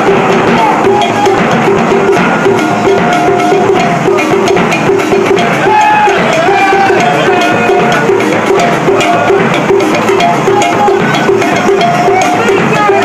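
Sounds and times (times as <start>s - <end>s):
drums: 0.0s - 13.0s.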